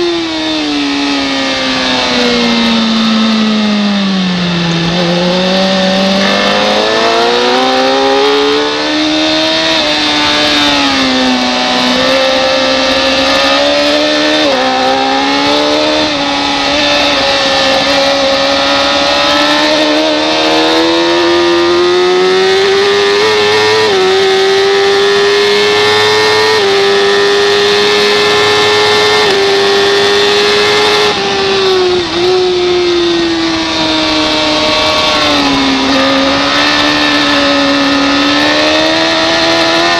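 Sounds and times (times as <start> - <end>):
racing motorcycle engine revving: 0.0 - 39.9
wind noise: 0.0 - 39.9.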